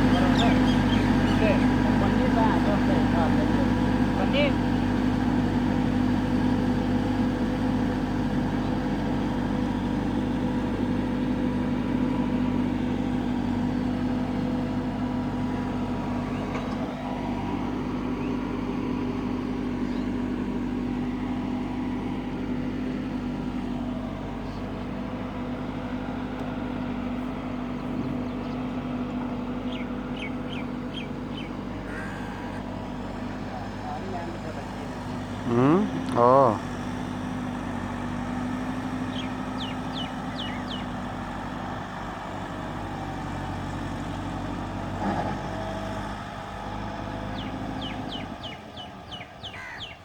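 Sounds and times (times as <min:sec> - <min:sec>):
tractor diesel engine droning: 0:00.0 - 0:50.0.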